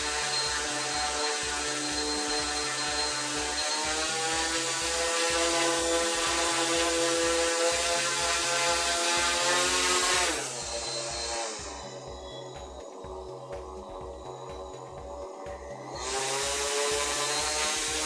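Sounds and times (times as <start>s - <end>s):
background music beat: 0.0s - 18.0s
motor spinning propeller whine: 0.0s - 18.0s.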